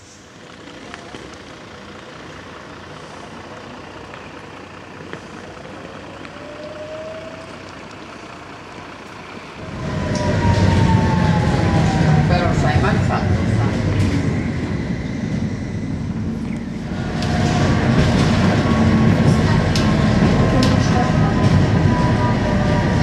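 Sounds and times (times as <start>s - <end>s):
tram hum: 0.0s - 23.0s
tram motors and wheels rumbling: 0.0s - 23.0s.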